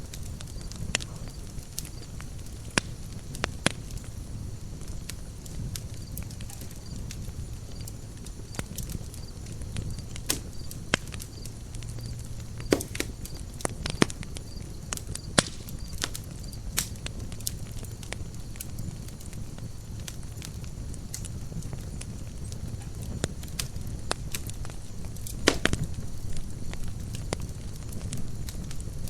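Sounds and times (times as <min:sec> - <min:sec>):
low rumble of flames: 0:00.0 - 0:29.0
wood crackling and popping: 0:00.0 - 0:29.0.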